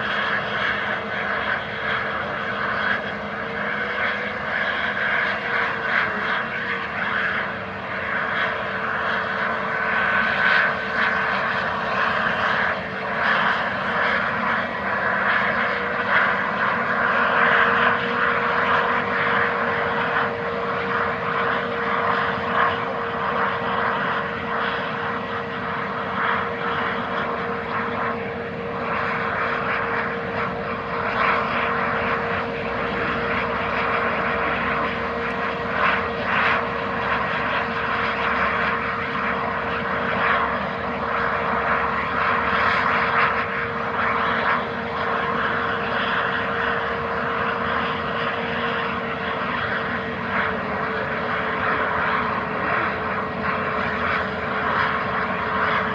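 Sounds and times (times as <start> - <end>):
jet engines running: 0.0 - 55.9.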